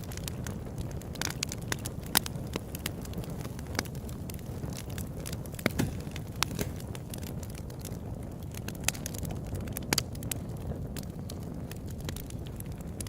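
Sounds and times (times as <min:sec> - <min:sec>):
flame rushing: 0:00.0 - 0:13.0
wood crackling and popping: 0:00.0 - 0:13.0.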